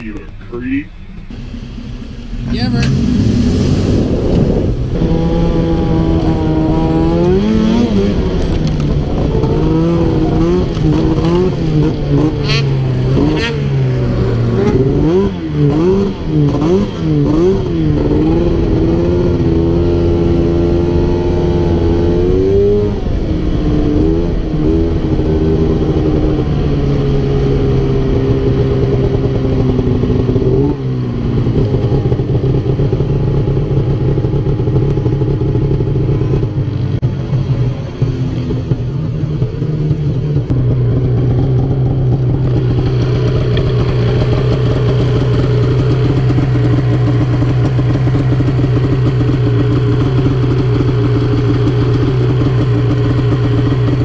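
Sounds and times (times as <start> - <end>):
snowmobile engine revving: 1.4 - 33.6, 40.6 - 54.0.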